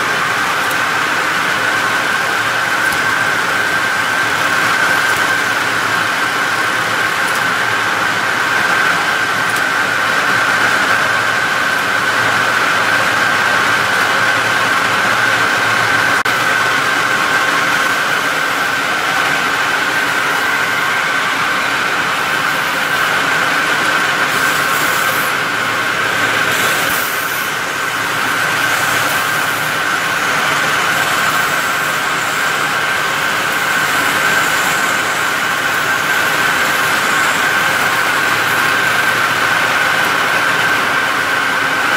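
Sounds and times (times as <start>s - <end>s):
bag-making machine running: 0.0s - 41.9s.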